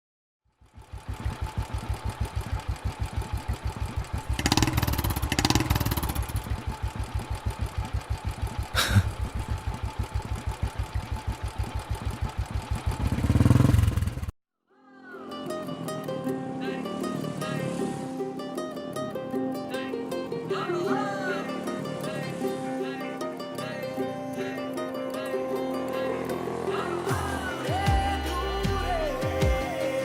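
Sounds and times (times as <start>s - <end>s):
engine running with rapid pulse: 0.5s - 14.3s, 15.6s - 30.0s.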